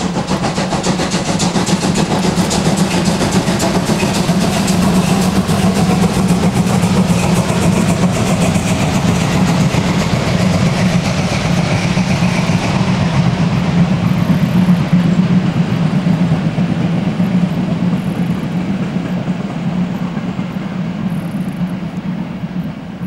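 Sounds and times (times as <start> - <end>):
passenger train rumbling past: 0.0 - 23.0.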